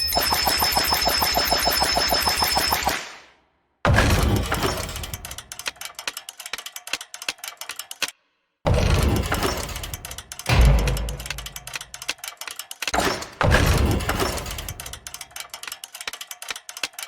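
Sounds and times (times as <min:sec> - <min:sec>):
rapid gunfire-like clicks: 0:00.0 - 0:03.3, 0:03.9 - 0:17.0.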